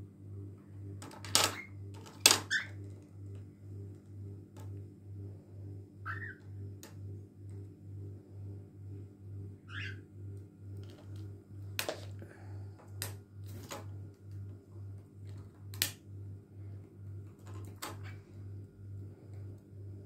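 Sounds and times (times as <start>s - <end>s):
low pulsing hum: 0.0s - 20.0s.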